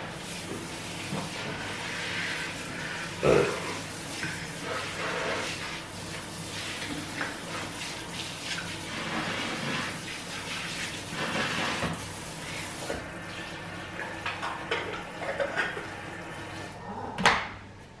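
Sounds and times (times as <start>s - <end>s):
faucet running water into sink: 0.0s - 16.8s.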